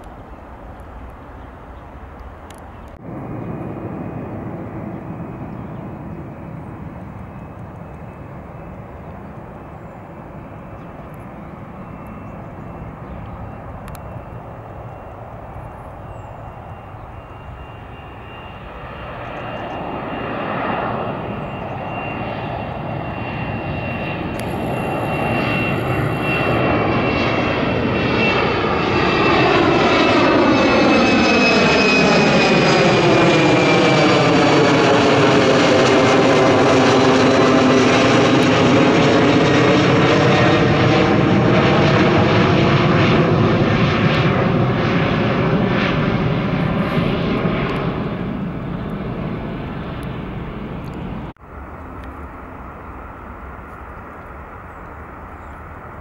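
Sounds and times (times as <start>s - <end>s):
jet airliner passing overhead: 0.0s - 56.0s.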